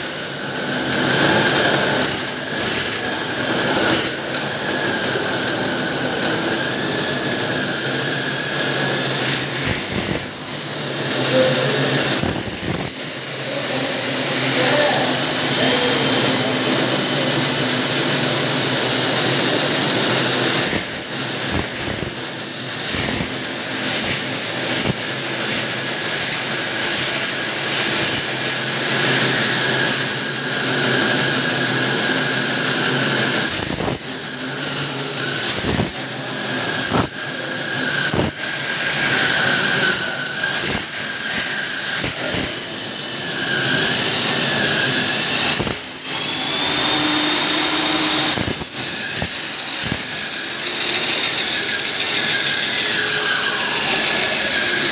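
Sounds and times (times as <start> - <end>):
power tool whining: 0.0 - 54.9.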